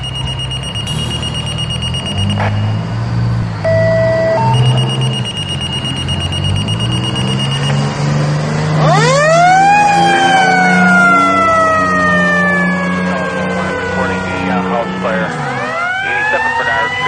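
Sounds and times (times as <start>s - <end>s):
high-pitched alarm tone: 0.0s - 8.1s, 8.8s - 17.0s
diesel truck engine running: 0.0s - 17.0s
fire truck siren: 0.0s - 17.0s.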